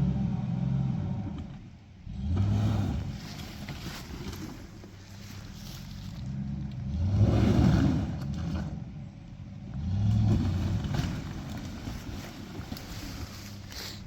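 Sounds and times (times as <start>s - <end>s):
truck engine revving: 0.0s - 4.6s, 6.1s - 14.0s.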